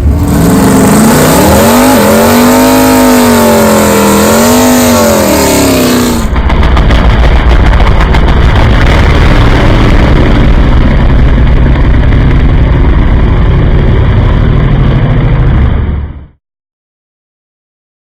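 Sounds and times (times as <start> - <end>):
race car engine at high revs: 0.0 - 15.8.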